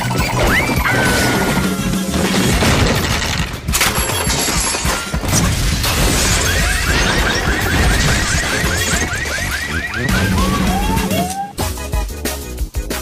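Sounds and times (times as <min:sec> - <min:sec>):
busy cartoon music: 0:00.0 - 0:13.0.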